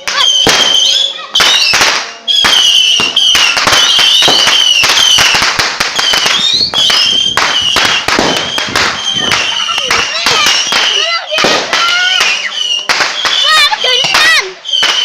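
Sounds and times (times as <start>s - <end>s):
firework whistles: 0.0s - 15.0s
fireworks bangs and crackles: 0.0s - 15.0s.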